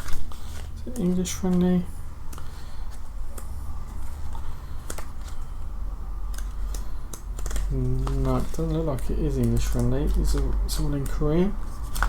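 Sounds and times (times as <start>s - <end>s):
paper pages rustling: 0.0s - 1.7s, 2.3s - 5.7s, 6.3s - 12.0s
steady low hum: 0.0s - 12.0s.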